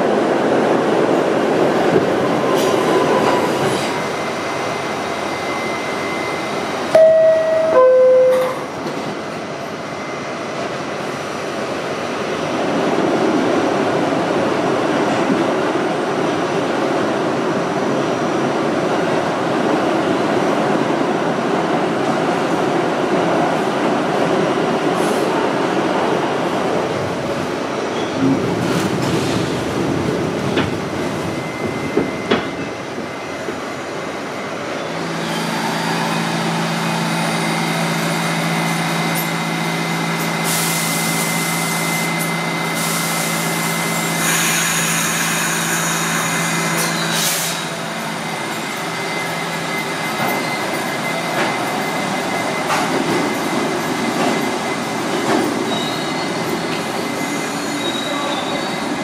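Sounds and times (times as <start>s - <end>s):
train rail noise: 0.0s - 59.0s.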